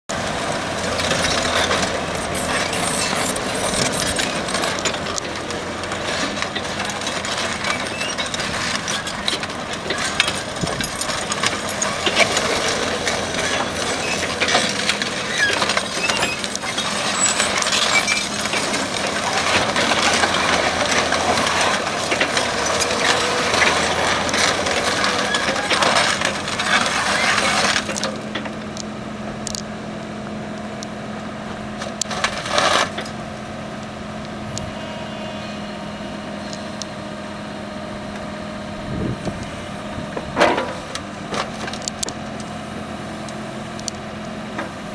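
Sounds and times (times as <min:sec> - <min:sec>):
diesel excavator engine running: 0:00.0 - 0:44.9.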